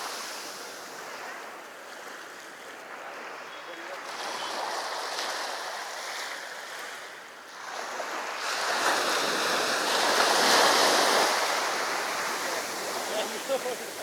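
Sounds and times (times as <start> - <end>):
sea waves washing on a beach: 0.0 - 14.0.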